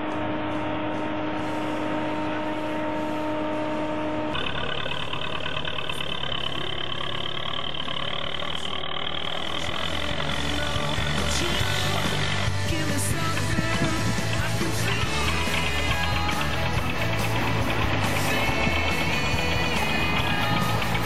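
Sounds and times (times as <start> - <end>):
harvester whining: 0.0 - 21.0
tractor diesel engine running: 0.0 - 21.0.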